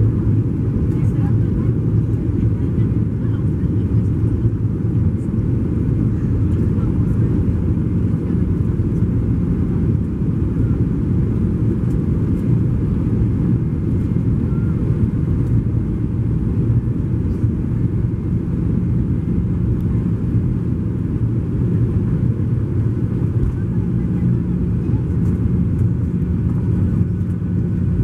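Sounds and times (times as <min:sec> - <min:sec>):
jet engine drone in cabin: 0:00.0 - 0:28.0.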